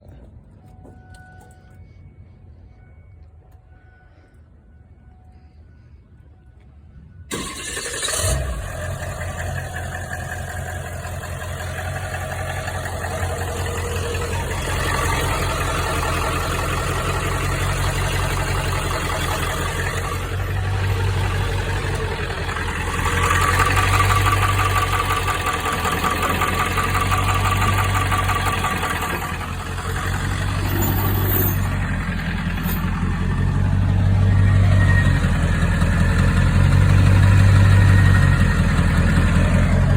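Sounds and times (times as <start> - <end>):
diesel truck engine starting and running: 7.3 - 39.9.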